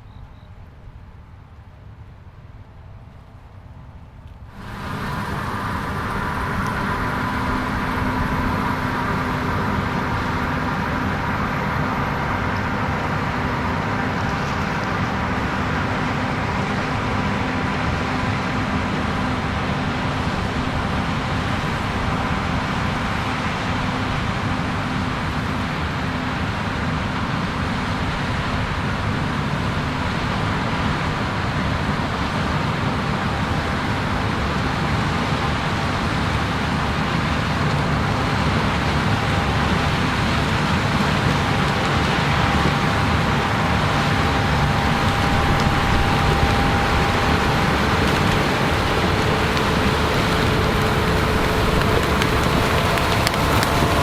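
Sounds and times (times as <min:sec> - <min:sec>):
harvest machinery diesel drone: 0:03.1 - 0:54.0.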